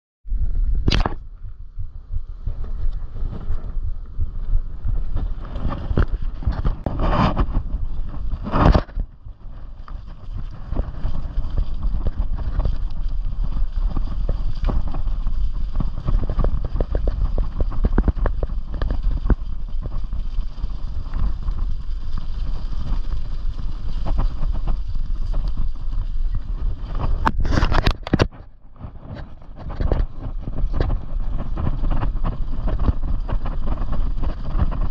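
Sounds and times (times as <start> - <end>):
wind rumble on microphone: 0.2 - 34.9
bicycle tyres crunching on gravel: 2.3 - 34.9.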